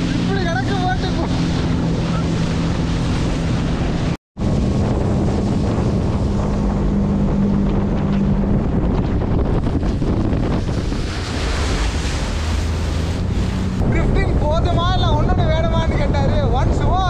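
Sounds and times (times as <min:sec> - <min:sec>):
speedboat engine: 0:00.0 - 0:17.0
water splashing against hull: 0:00.0 - 0:17.0
wind buffeting microphone: 0:00.0 - 0:17.0.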